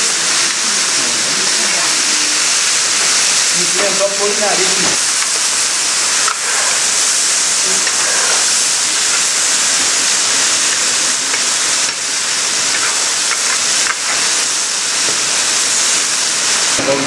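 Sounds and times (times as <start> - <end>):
food sizzling in a cauldron: 0.0 - 17.0.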